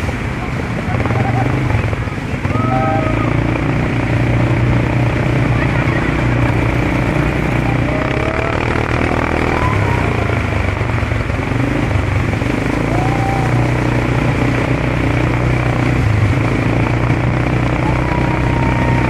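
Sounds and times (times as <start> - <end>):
quad bike engine running: 0.0 - 19.0
road and wind noise: 0.0 - 19.0.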